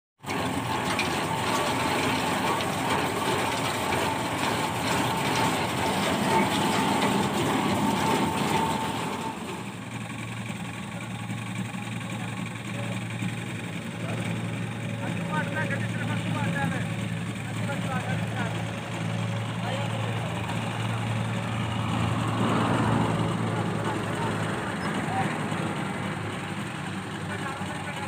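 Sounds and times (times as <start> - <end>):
thresher mechanical clatter: 0.2 - 28.0
tractor engine drone: 0.2 - 28.0.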